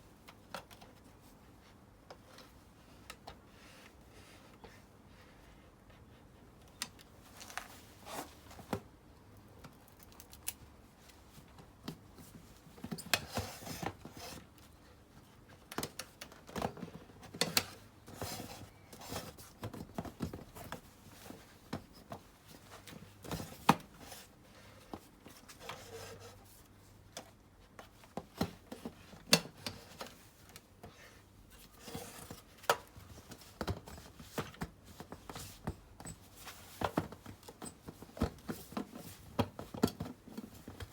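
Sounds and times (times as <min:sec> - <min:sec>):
scraping and rustling of hands: 0:00.1 - 0:08.9, 0:09.6 - 0:40.9.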